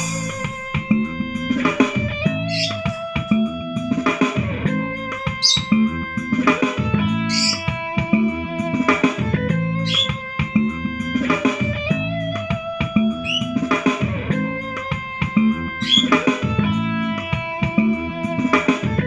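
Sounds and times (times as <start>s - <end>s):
music with guitar bass and drums: 0.0s - 19.0s.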